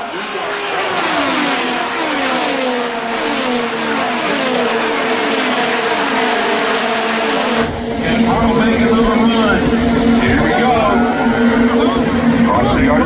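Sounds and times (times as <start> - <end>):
race cars passing at speed: 0.0 - 13.0.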